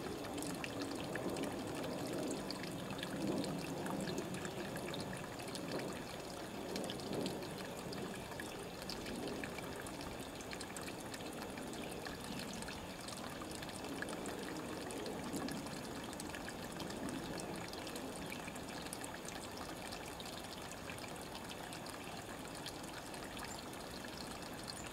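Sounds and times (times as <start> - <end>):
forest stream trickling: 0.0 - 24.9.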